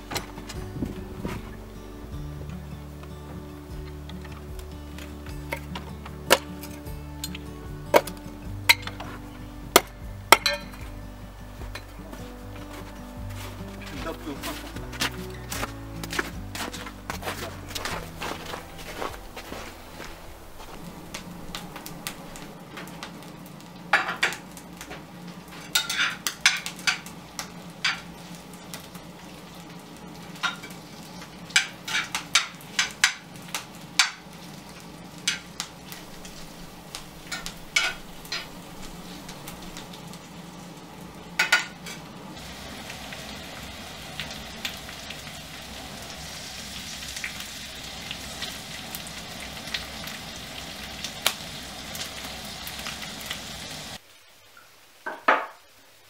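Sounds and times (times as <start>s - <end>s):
food sizzling in a skillet: 10.4s - 56.0s.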